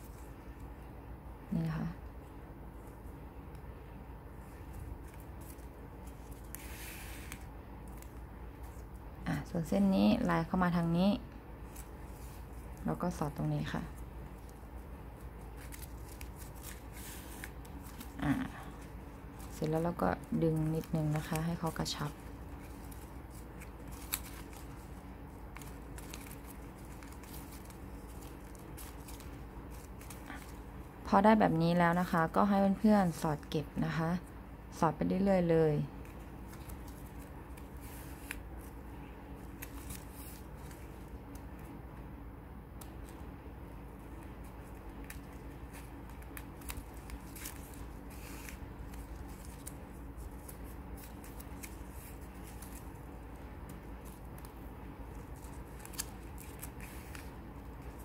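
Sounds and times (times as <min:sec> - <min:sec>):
ribbon rustling: 0:00.0 - 0:41.8, 0:42.7 - 0:58.0
faint low hum: 0:00.0 - 0:58.0
small clicks and crinkles: 0:04.3 - 0:34.3, 0:35.4 - 0:42.1, 0:42.7 - 0:58.0.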